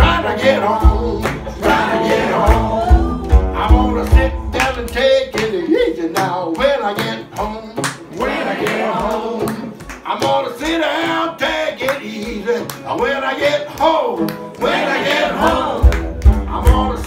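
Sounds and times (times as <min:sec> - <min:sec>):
man singing: 0:00.0 - 0:08.3, 0:08.9 - 0:14.3, 0:16.3 - 0:17.0
strummed electric guitar: 0:00.0 - 0:17.0.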